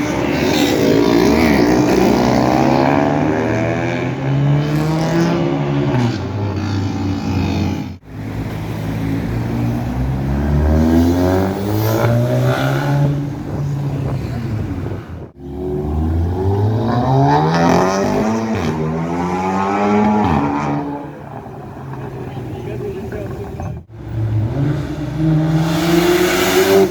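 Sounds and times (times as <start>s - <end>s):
car engines accelerating hard: 0.0s - 26.9s.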